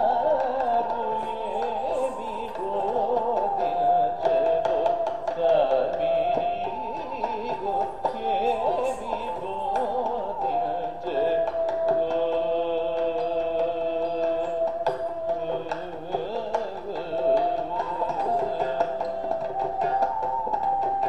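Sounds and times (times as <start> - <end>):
ornamented classical melody: 0.0 - 21.0.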